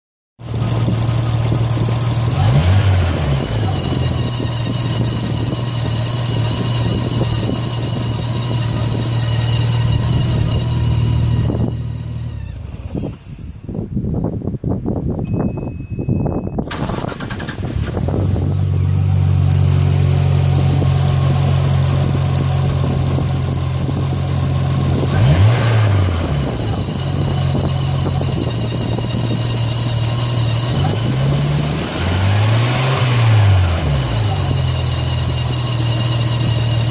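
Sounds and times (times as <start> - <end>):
car engine idling and revving: 0.4 - 13.8, 16.7 - 36.9.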